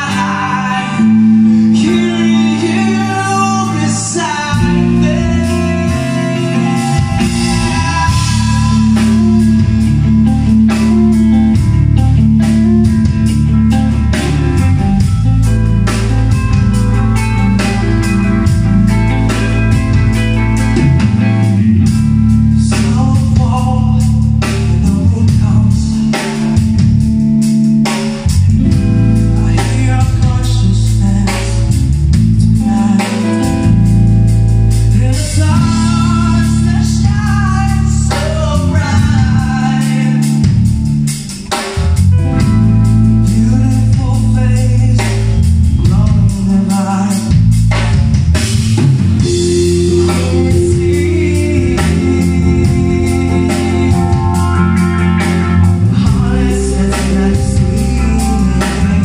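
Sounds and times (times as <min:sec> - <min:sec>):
man singing: 0:00.0 - 0:27.1, 0:28.2 - 0:34.0, 0:34.8 - 0:48.0, 0:49.2 - 0:59.0
bass guitar: 0:00.0 - 0:59.0
drum kit: 0:00.0 - 0:59.0
electric guitars: 0:00.0 - 0:59.0.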